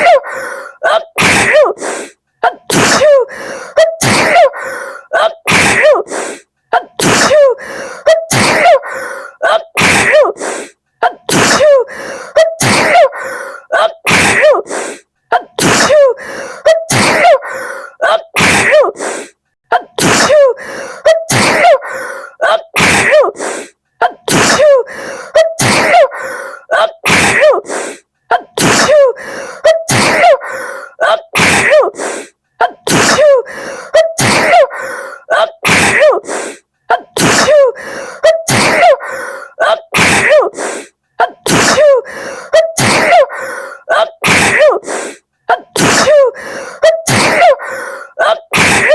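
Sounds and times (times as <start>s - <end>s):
woman sneezing: 0.0s - 48.9s.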